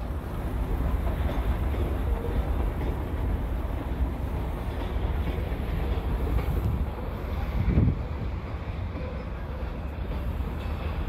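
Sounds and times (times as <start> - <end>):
distant freight train rumble: 0.0 - 11.0.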